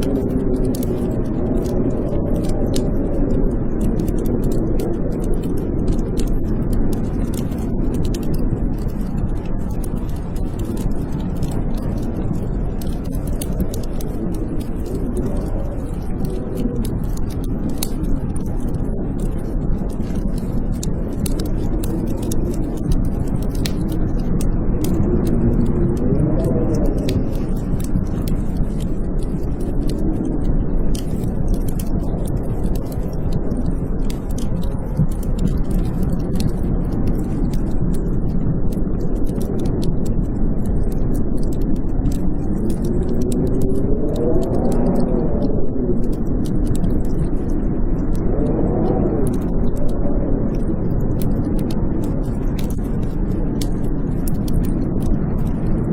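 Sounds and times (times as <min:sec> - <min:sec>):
blizzard wind howling: 0:00.0 - 0:55.9
wood fire crackling: 0:00.0 - 0:55.9.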